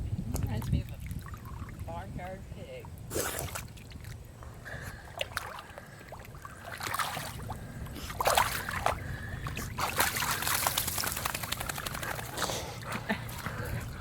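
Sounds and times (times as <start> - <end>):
mud and water sloshing: 0.3 - 14.0.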